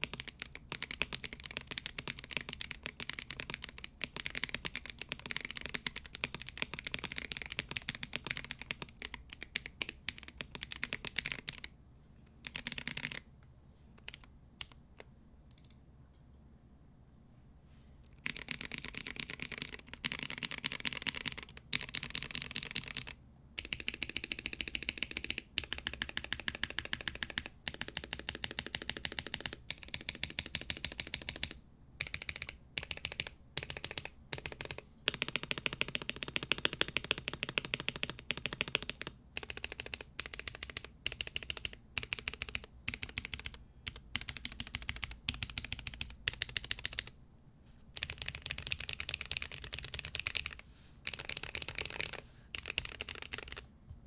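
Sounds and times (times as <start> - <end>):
mechanical keyboard typing: 0.0 - 11.7, 12.4 - 13.3, 14.0 - 15.8, 18.2 - 47.2, 48.0 - 53.7.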